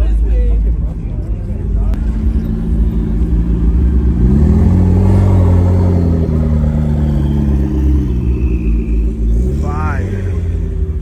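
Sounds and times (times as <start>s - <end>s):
car engine revving: 0.7s - 11.0s.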